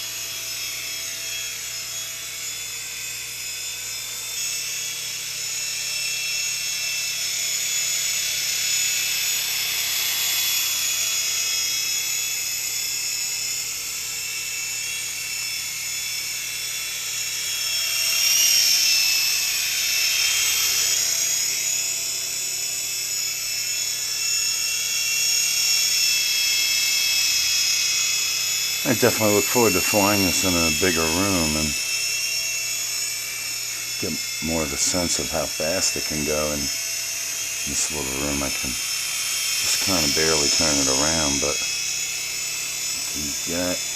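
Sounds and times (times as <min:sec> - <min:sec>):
toy helicopter motor whine: 0:00.0 - 0:43.9.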